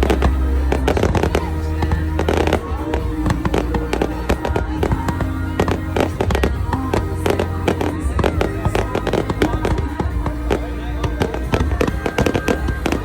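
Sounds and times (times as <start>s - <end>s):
fireworks cracking and popping: 0.0s - 13.0s
music with heavy bass: 0.0s - 13.0s.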